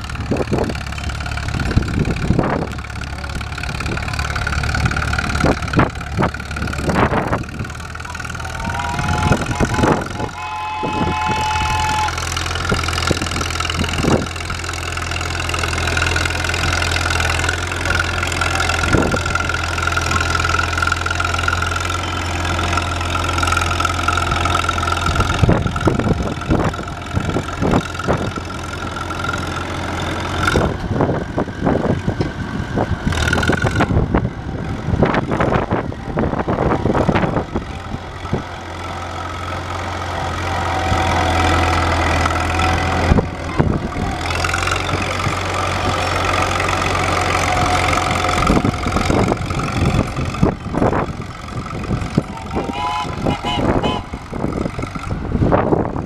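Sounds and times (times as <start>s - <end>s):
bulldozer engine running: 0.0s - 56.0s.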